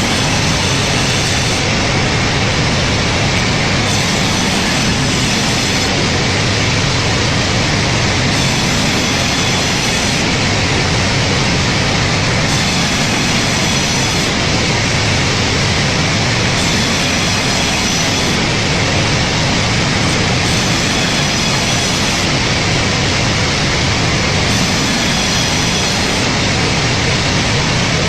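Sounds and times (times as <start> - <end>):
loud machine noise: 0.0 - 28.0.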